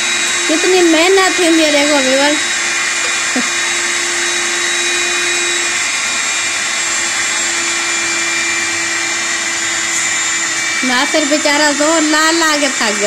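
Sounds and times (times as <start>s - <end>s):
electric meat mincer running: 0.0s - 13.0s.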